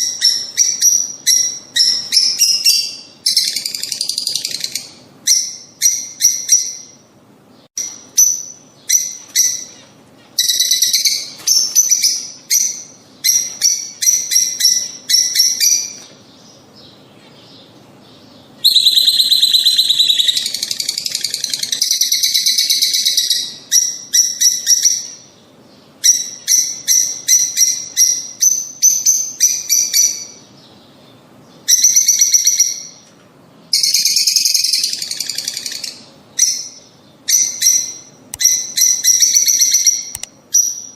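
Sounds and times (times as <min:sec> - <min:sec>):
lovebirds chirping and chattering: 0:00.0 - 0:33.1.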